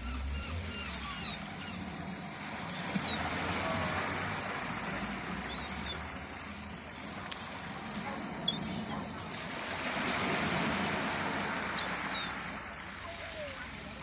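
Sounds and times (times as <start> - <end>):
sea surf washing on beach: 0.9 - 14.0.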